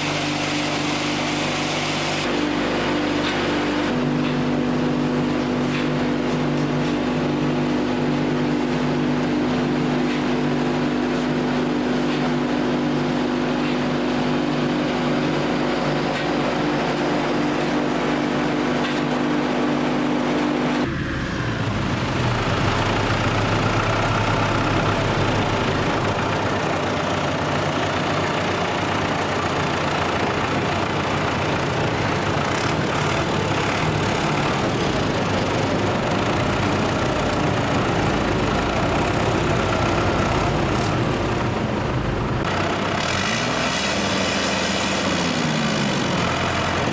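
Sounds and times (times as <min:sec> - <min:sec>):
heavy machinery humming: 0:00.0 - 0:46.9
noisier machine hum: 0:00.0 - 0:46.9.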